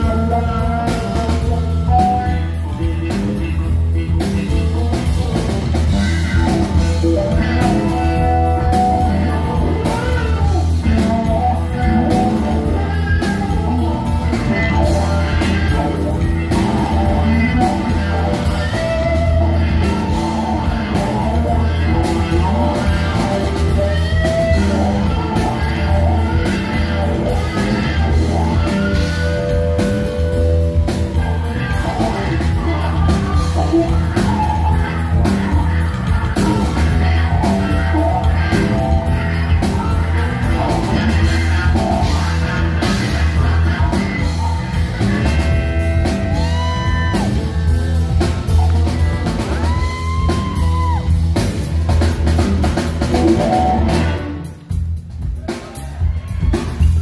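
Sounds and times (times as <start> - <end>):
bass: 0.0 - 57.0
drums: 0.0 - 57.0
loud electric guitar: 0.0 - 57.0.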